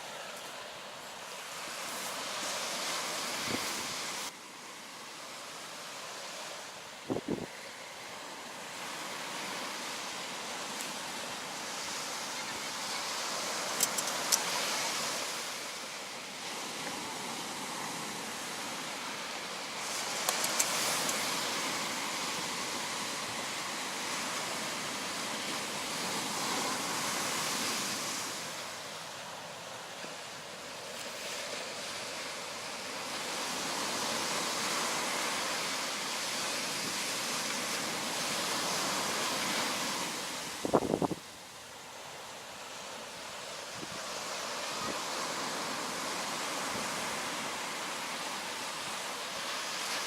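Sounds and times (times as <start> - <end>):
sea waves washing on shore: 0.0 - 50.0.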